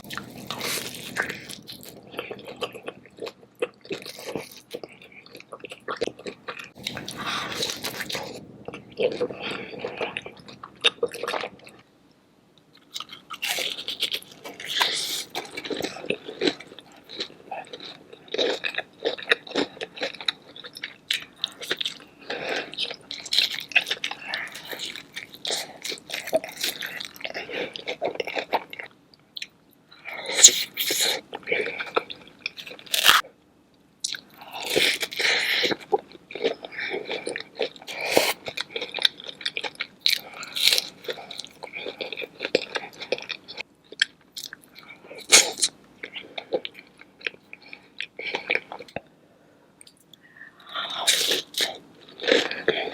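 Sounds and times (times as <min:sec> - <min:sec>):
crunching and chewing food: 0:00.0 - 0:11.9, 0:12.6 - 0:33.4, 0:34.0 - 0:49.1, 0:49.8 - 0:52.9.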